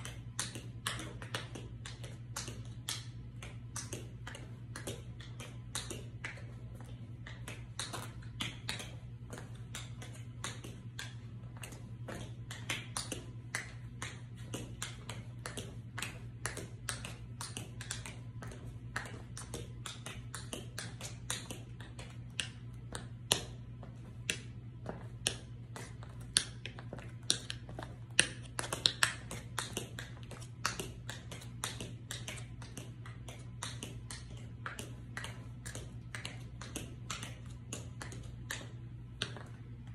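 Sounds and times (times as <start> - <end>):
tap shoes clicking on hard floor: 0.0 - 39.9.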